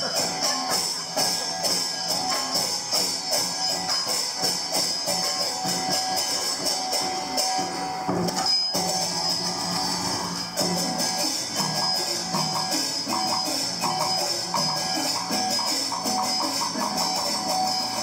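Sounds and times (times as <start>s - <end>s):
fast percussion: 0.0s - 18.0s.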